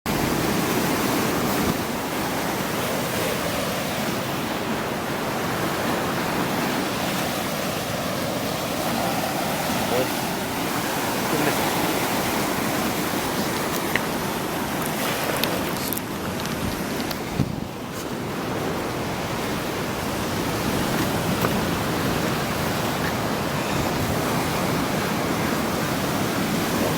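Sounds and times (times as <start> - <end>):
sea surf breaking on beach: 0.1 - 26.9.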